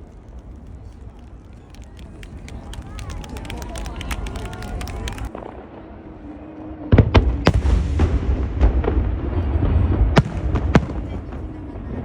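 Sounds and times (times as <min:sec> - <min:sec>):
deep rumble: 0:00.0 - 0:12.0
fireworks bangs: 0:00.0 - 0:12.0.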